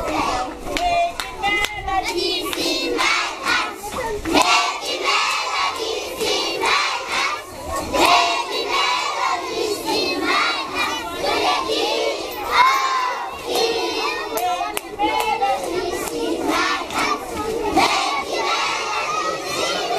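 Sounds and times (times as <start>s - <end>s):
children shouting and cheering: 0.0s - 19.9s.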